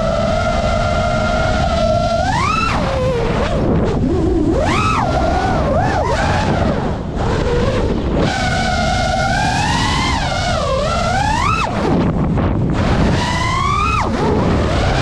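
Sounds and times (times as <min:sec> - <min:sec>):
drone motors whining: 0:00.0 - 0:15.0
wind rushing on microphone: 0:00.0 - 0:15.0.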